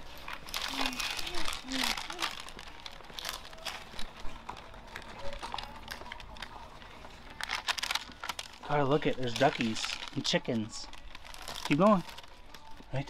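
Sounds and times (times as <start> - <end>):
faint clicks and rustles: 0.0 - 13.0.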